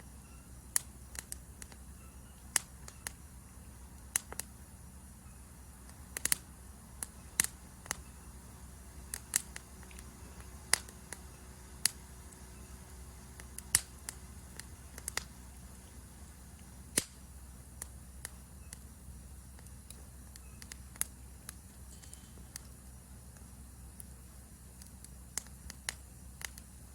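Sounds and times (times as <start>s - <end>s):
campfire crackling and popping: 0.0s - 26.9s
high insect hum: 0.0s - 26.9s.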